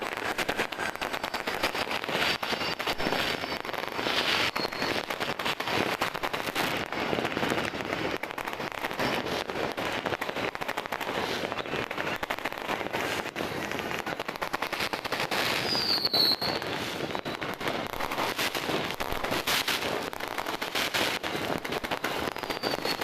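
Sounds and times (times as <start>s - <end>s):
fireworks and firecrackers crackling: 0.0s - 23.0s.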